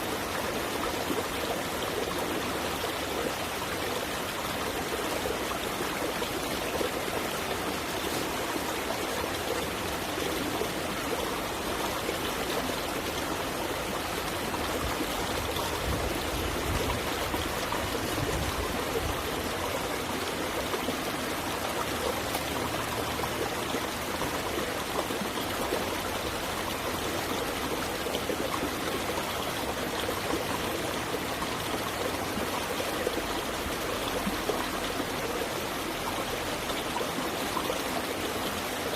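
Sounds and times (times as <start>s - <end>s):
water flowing in a stream: 0.0s - 38.9s.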